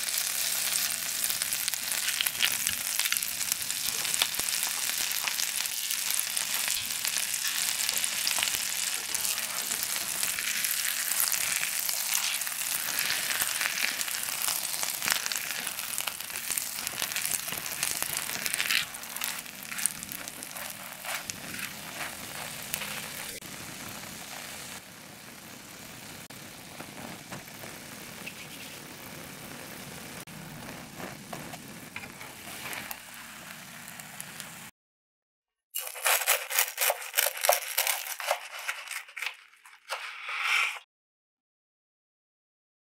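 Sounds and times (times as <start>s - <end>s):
butter sizzling in a frying pan: 0.0s - 34.7s.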